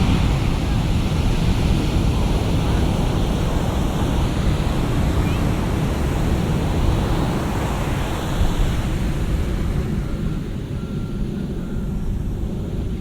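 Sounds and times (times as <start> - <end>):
ocean waves breaking on sand: 0.0 - 13.0
wind on microphone: 0.0 - 13.0.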